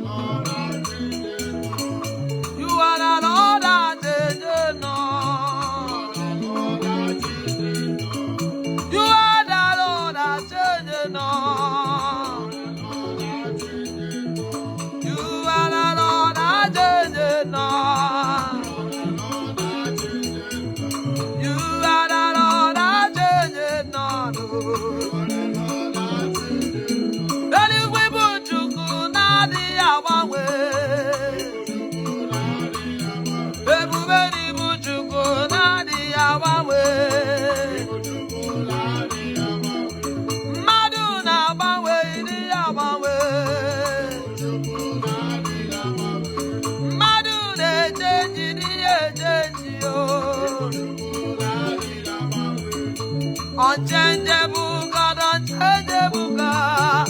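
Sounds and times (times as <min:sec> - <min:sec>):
shaker keeping the beat: 0:00.0 - 0:57.0
wavering lead vocal: 0:00.0 - 0:57.0
gospel band groove: 0:00.3 - 0:57.0.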